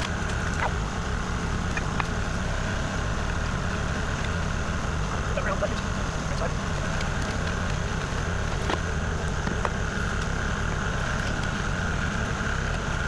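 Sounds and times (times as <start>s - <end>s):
excavator diesel engine: 0.0s - 13.0s
steady whine: 0.0s - 13.0s.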